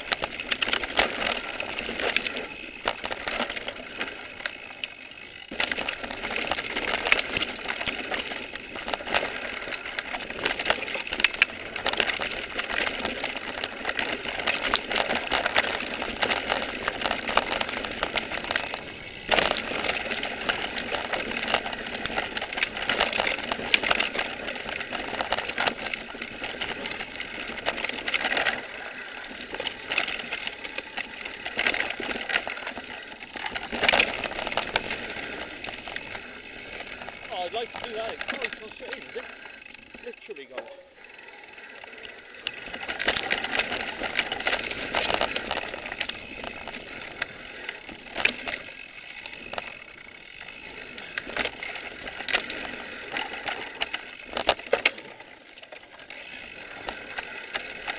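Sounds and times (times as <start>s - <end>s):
bike rattling over stones: 0.0s - 57.9s
tyres on dirt: 0.0s - 57.9s.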